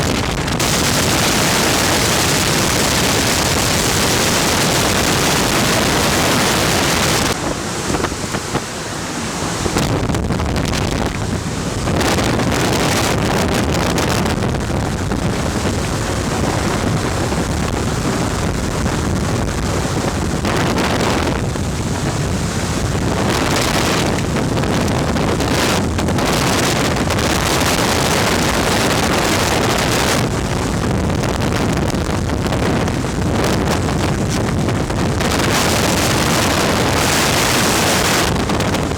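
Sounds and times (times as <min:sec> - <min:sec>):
ventilation fan air rush: 0:00.0 - 0:38.9
wind buffeting microphone: 0:00.0 - 0:38.9.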